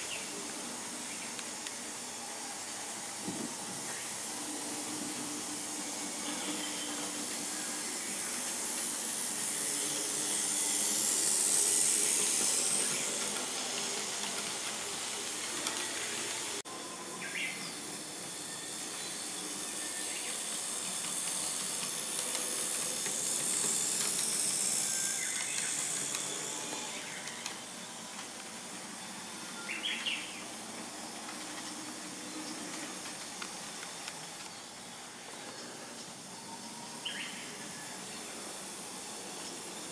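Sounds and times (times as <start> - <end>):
model train wheels and motor hiss: 0.0 - 39.9.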